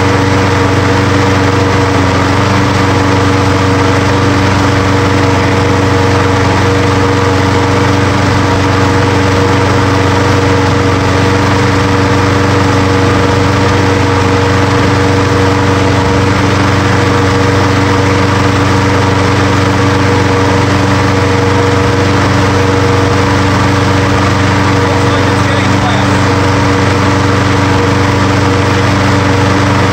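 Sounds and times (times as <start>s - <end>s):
lawn mower engine running: 0.0s - 29.9s.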